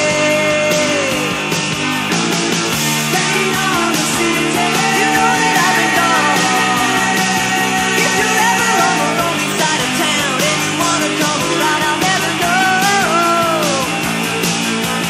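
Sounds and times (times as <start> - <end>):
rock song with full band: 0.0 - 15.0.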